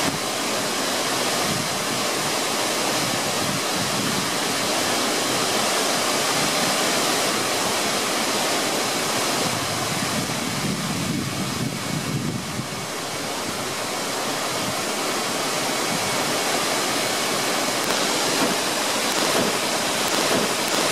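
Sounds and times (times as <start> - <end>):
waterfall rushing: 0.0 - 10.4, 12.5 - 20.9.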